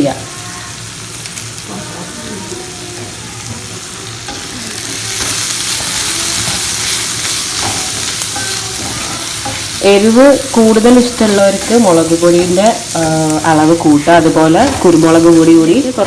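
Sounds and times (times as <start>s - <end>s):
masala sizzling in hot oil: 0.0s - 16.0s
stirring in a pan: 1.0s - 16.0s.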